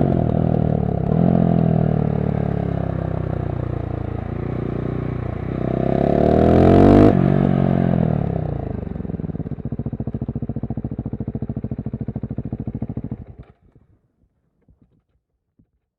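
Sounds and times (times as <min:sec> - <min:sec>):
motorcycle engine revving and idling: 0:00.0 - 0:13.8.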